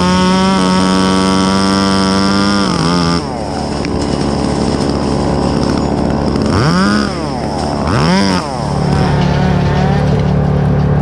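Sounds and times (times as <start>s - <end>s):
chainsaw running at full throttle: 0.0s - 10.4s.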